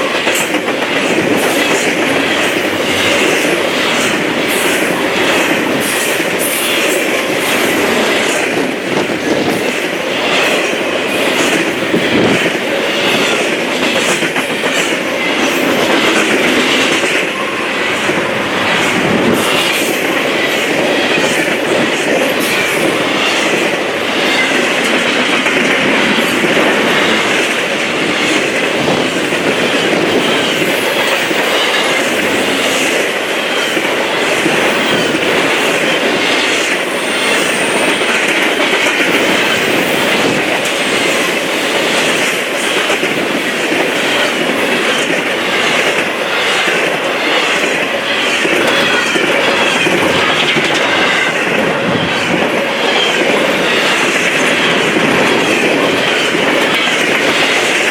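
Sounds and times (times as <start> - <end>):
freight train cars rolling past: 0.0 - 57.9.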